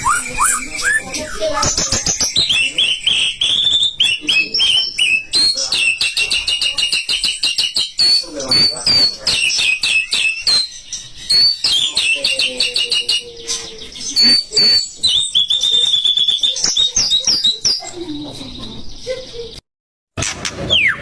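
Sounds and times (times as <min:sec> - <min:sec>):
songbird whistling and trilling: 0:00.0 - 0:17.9, 0:20.7 - 0:21.0.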